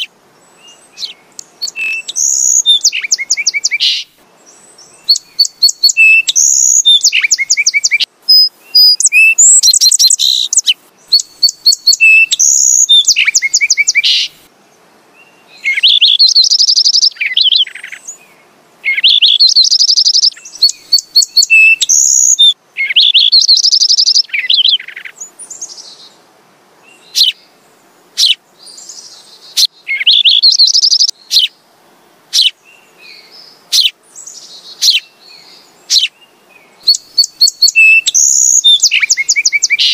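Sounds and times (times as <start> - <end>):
sparrows chirping: 0.0 - 14.4, 15.2 - 26.1, 26.9 - 27.5, 28.2 - 31.5, 32.3 - 39.9.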